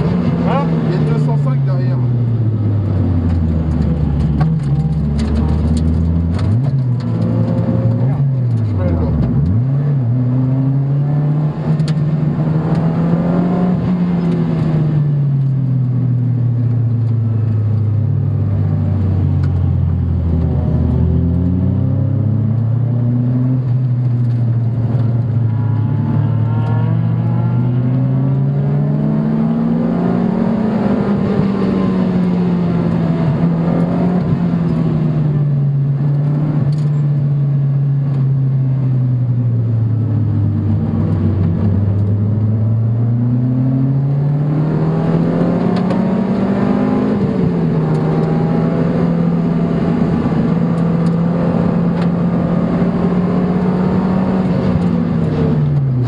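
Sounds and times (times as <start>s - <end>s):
car engine revving inside car: 0.0s - 56.0s.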